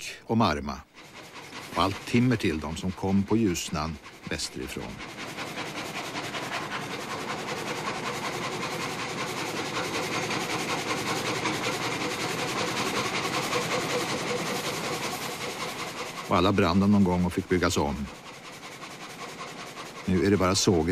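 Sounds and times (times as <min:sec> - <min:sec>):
gang saw cutting log: 0:00.7 - 0:20.9.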